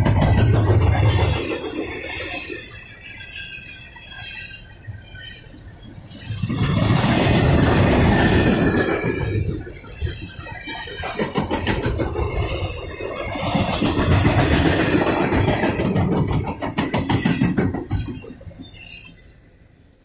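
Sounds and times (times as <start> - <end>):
freight train rolling past: 0.0 - 20.0
wheels clicking over rail joints: 0.0 - 20.0.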